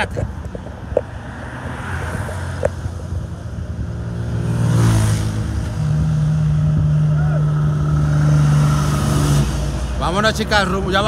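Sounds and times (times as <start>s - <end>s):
vehicle passing on highway: 0.0s - 11.0s.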